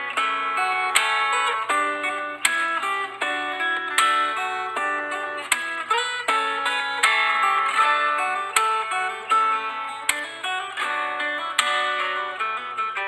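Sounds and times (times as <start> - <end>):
plucked guitar music: 0.0 - 13.0
struck guitar chords: 0.0 - 13.0.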